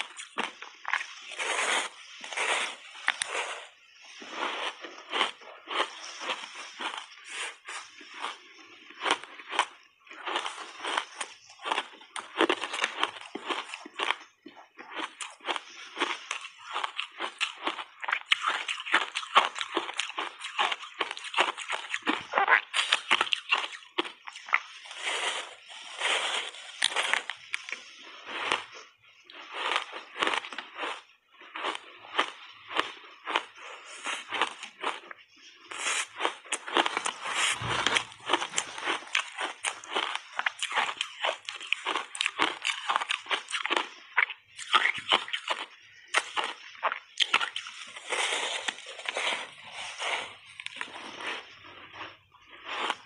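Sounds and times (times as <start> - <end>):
ice crunching between teeth: 0.0 - 53.0.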